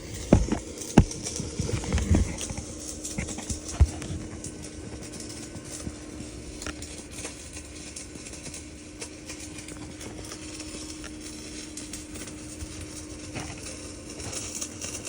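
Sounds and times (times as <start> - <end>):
steady hum: 0.0 - 15.0
welding arc crackling sizzle: 0.0 - 15.0.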